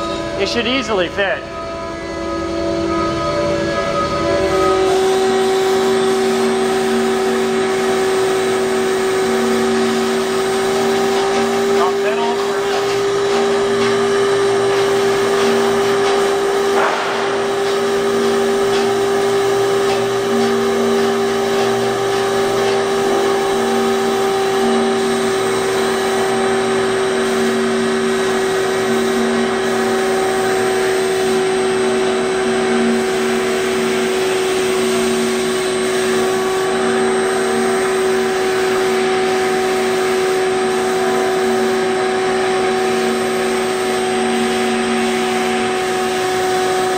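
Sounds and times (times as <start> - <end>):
machine whining: 0.0 - 46.9.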